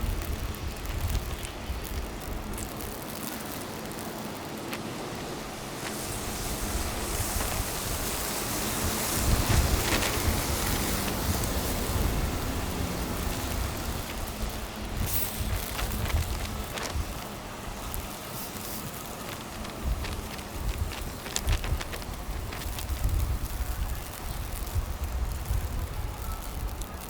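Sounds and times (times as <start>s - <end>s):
vehicle low rumble: 0.0s - 27.0s
wind hiss on microphone: 0.0s - 27.0s.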